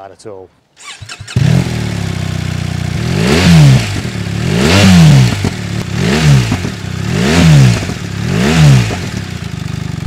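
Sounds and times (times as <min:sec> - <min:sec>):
motorcycle engine revving: 0:00.8 - 0:10.0
motorcycle engine starting and idling: 0:00.8 - 0:10.0.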